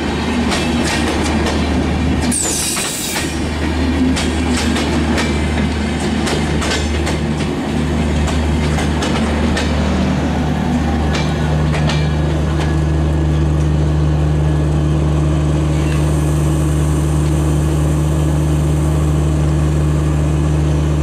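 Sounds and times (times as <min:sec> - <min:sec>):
train coaches rumbling past: 0:00.0 - 0:21.0.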